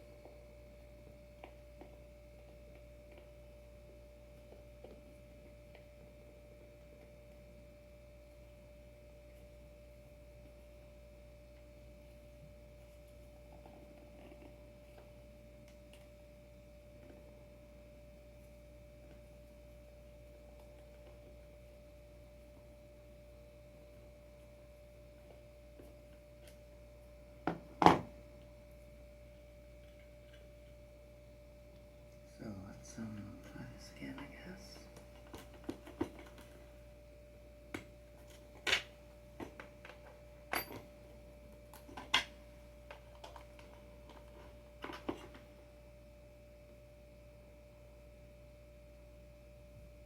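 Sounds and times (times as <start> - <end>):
faint hum with high whine: 0.0 - 50.0.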